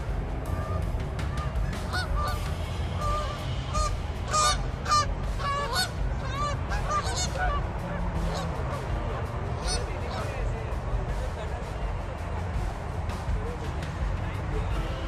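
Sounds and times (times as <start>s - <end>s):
geese honking: 0.0s - 15.0s
steady low rumble: 0.0s - 15.0s.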